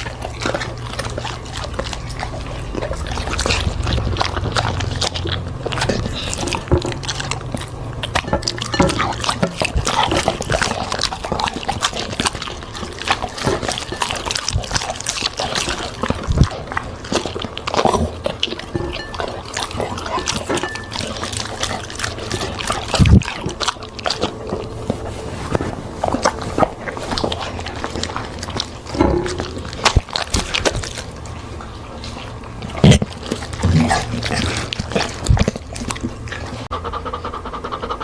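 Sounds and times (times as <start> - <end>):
small crunches: 0.0 - 36.7
dog chewing wetly: 0.0 - 38.0
lip smacking: 0.0 - 38.0.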